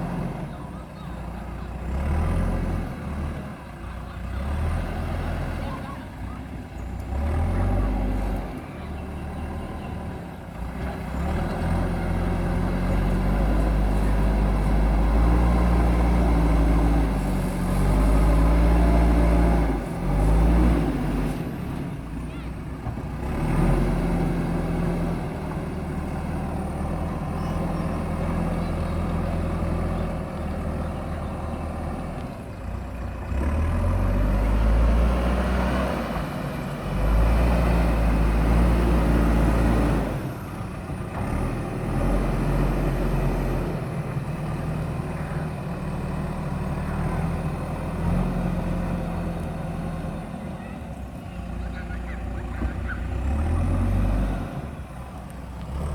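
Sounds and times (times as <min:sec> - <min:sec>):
diesel engine under load: 0:00.0 - 0:55.9.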